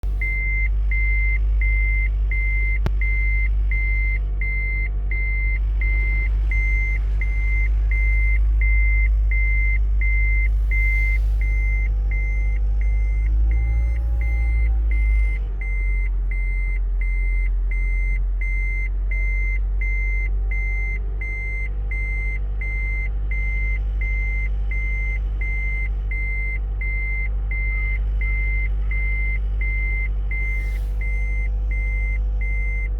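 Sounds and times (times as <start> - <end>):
low engine rumble: 0.0 - 32.9
vehicle reversing alarm beeping: 0.1 - 32.9.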